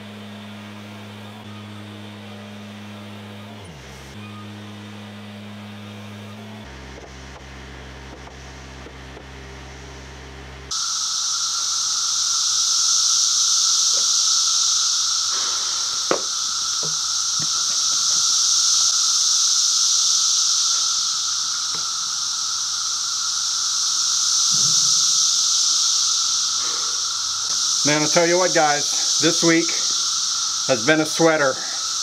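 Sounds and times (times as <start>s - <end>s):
insect chorus drone: 0.0s - 32.0s.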